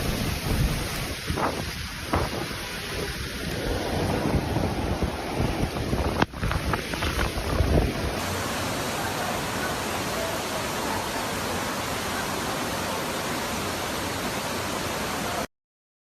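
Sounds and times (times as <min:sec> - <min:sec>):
steady hiss: 0:00.0 - 0:15.4.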